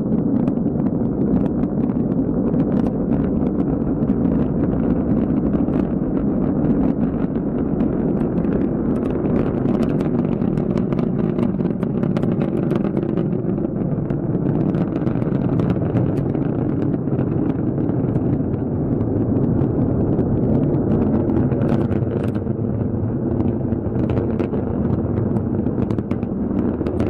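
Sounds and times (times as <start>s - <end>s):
rocket engine crackling: 0.0s - 27.0s
rocket engines rumbling: 0.0s - 27.0s.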